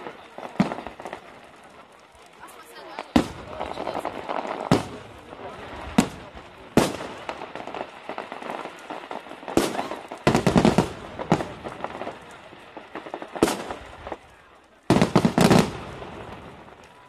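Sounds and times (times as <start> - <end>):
firework bangs: 0.0 - 17.0
firework crackling: 0.0 - 17.0.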